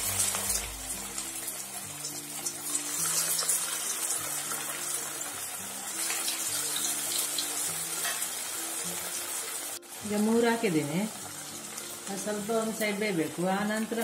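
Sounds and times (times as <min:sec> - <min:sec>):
food sizzling in hot oil: 0:00.0 - 0:14.0
light background music: 0:00.0 - 0:14.0.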